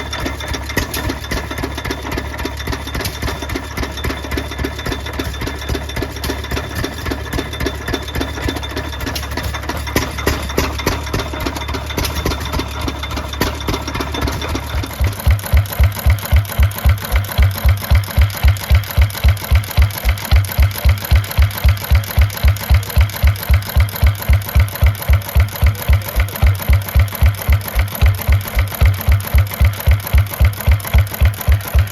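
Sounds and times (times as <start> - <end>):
engines knocking rapidly: 0.0 - 31.9
slow engine thumping: 0.0 - 31.9.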